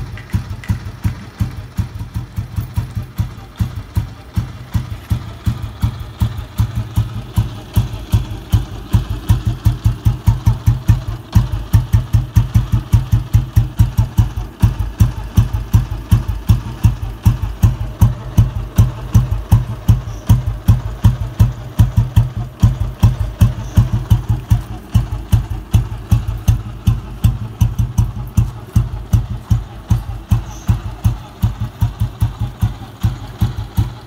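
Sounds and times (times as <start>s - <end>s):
motorcycle engine idling: 0.0s - 34.0s.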